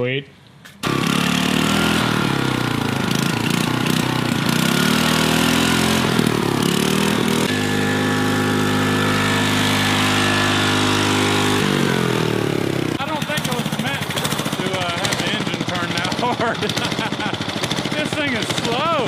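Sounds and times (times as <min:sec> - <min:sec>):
lawn mower engine running: 0:00.8 - 0:19.0.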